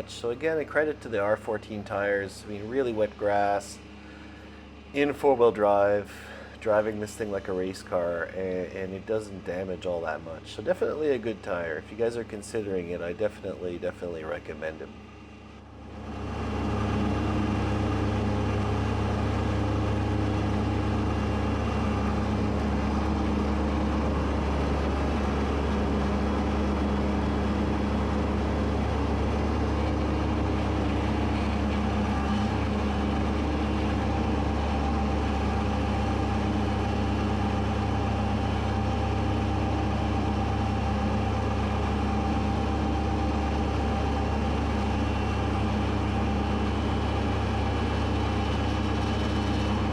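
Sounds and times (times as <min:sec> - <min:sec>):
tractor diesel engine drone: 0:00.0 - 0:49.9.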